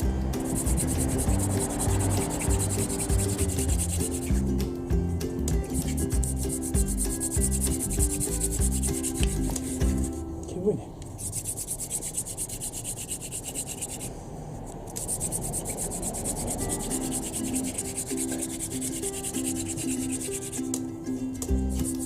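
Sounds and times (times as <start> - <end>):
wooden spindle rubbing on board: 0.4 - 4.7, 5.4 - 10.2, 11.2 - 14.2, 15.0 - 20.8, 21.7 - 22.0.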